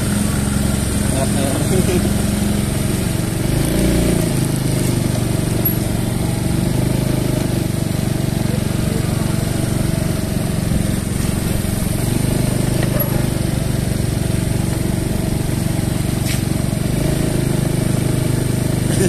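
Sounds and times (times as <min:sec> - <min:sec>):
wind and road noise: 0:00.0 - 0:17.2
scooter engines humming: 0:00.0 - 0:19.0.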